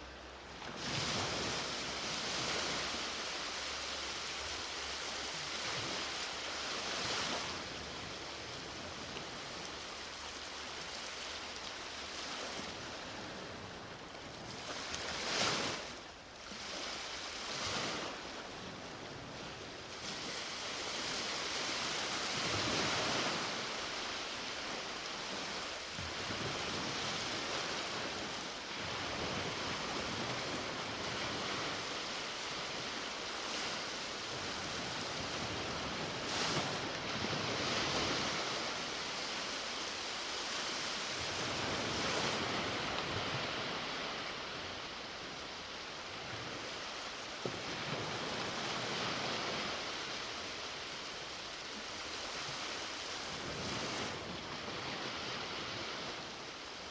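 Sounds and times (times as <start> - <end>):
sea waves breaking on shore: 0.0 - 56.9.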